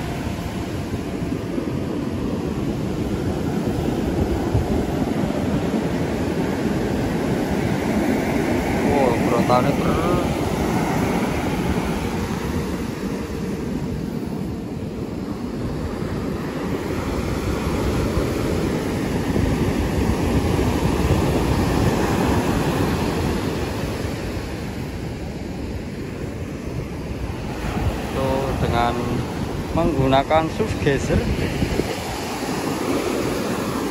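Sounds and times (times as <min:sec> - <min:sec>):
ocean surf breaking: 0:00.0 - 0:33.9
wind buffeting microphone: 0:00.0 - 0:33.9.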